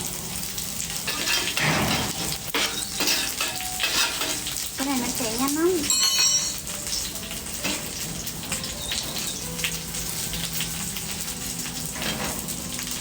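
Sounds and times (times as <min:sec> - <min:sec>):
food sizzling in a pan: 0:00.0 - 0:13.0
small pops of frying fat: 0:00.0 - 0:13.0.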